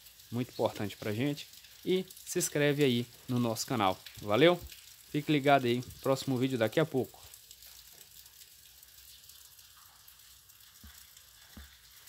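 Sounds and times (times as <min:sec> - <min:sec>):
faint room tone hiss: 0:00.0 - 0:12.0.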